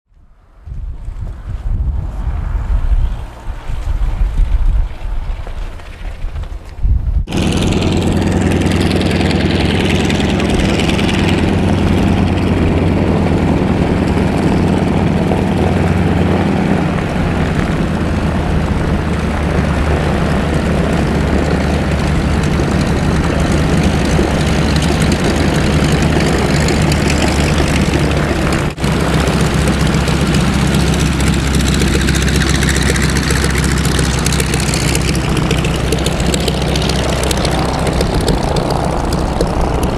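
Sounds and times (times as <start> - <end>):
propeller aircraft droning overhead: 0.2 - 39.9.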